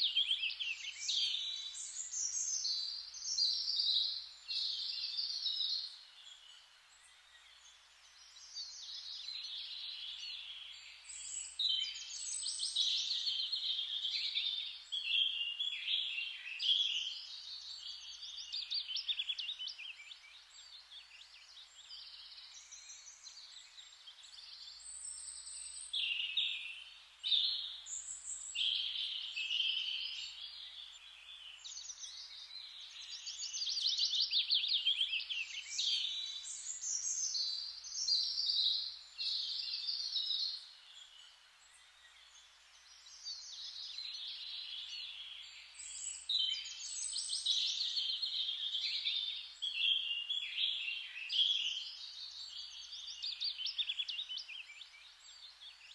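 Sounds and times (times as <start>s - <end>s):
faint steady hiss: 0.0s - 55.9s
songbirds singing: 0.0s - 55.9s.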